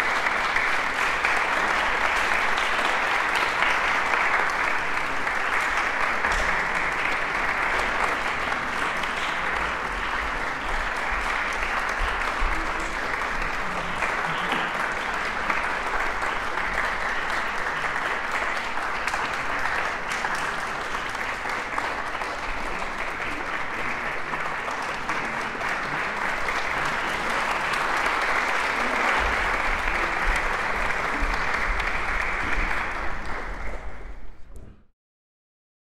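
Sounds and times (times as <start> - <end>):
audience applauding: 0.0 - 34.4.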